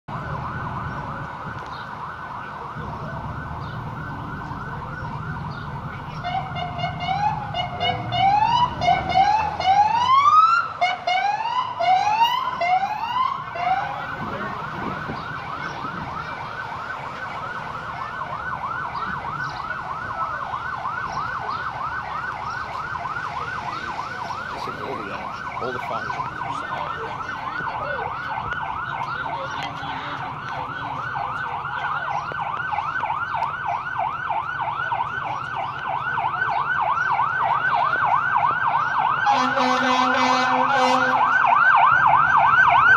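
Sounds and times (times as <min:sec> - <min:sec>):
emergency vehicle siren: 0:00.0 - 0:42.9.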